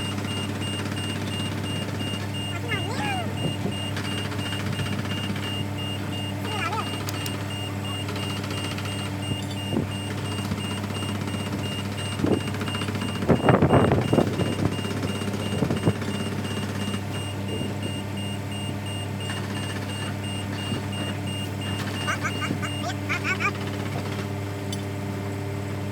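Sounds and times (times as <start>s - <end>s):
high warning beep: 0.0s - 23.5s
heavy machinery engine running: 0.0s - 24.8s.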